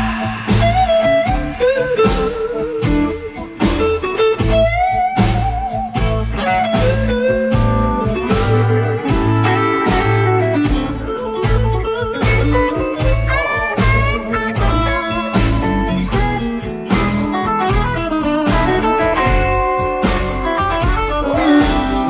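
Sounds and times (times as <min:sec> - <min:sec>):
bass line: 0:00.0 - 0:22.0
blues electric guitar: 0:00.0 - 0:22.0
steady drum beat: 0:00.0 - 0:22.0.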